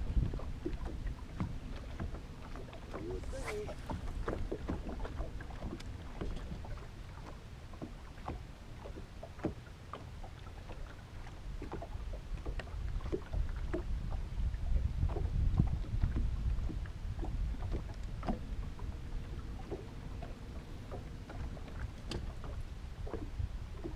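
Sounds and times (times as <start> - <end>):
wind rumble on microphone: 0.0 - 9.6, 10.2 - 23.9
water lapping against boat hull: 0.0 - 23.9.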